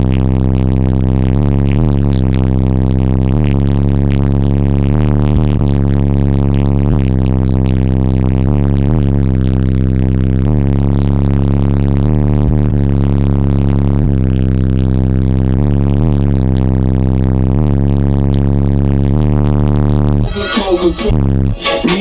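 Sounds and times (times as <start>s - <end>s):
car subwoofers playing bass music: 0.0s - 22.0s.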